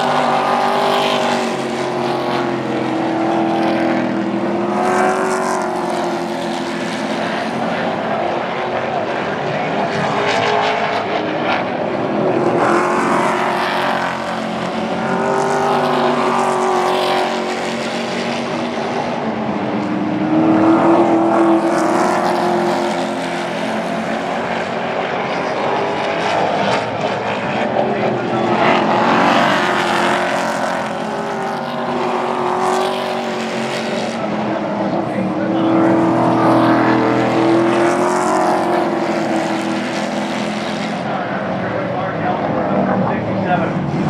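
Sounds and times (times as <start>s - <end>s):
racing truck engines: 0.0s - 44.0s.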